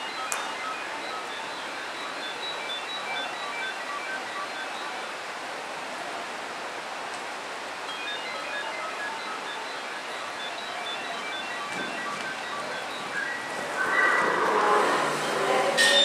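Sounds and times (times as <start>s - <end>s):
faint music: 0.0s - 16.0s.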